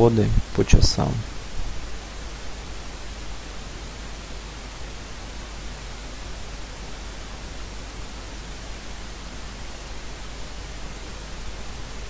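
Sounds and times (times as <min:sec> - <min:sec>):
steady microphone hiss: 0:00.0 - 0:12.0.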